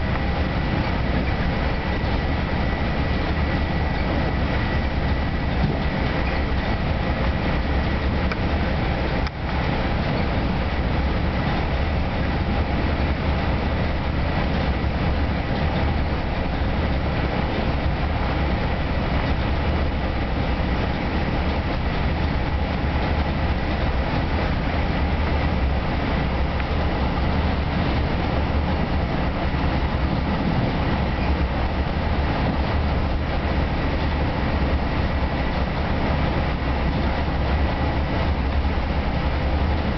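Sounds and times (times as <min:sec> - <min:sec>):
wheels rumbling on rail: 0:00.0 - 0:39.9.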